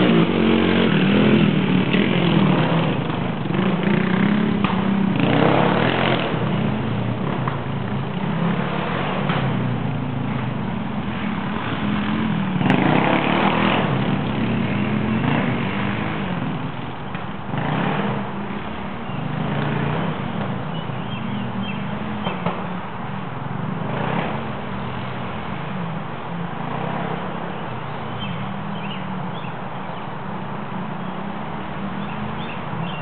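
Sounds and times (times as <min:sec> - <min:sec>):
dirt bike engine revving: 0:00.0 - 0:16.8, 0:17.4 - 0:22.9, 0:23.6 - 0:29.5.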